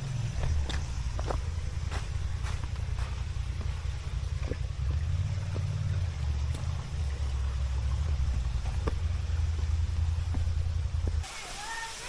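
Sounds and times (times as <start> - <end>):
vehicle engine running low: 0.0 - 11.2.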